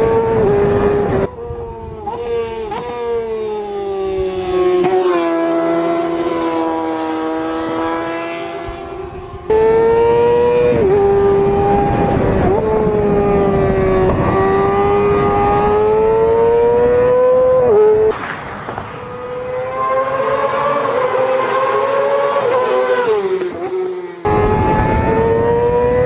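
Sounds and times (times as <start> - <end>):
engine at high revs: 0.0 - 1.3, 2.0 - 18.2, 19.0 - 26.0.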